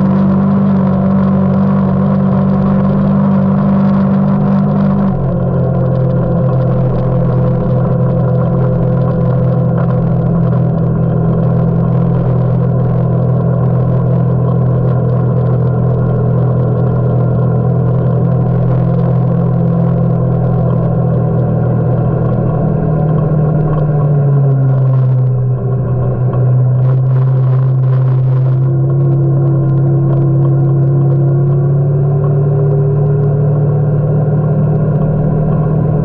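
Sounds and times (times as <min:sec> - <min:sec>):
utility vehicle engine running: 0:00.0 - 0:36.0.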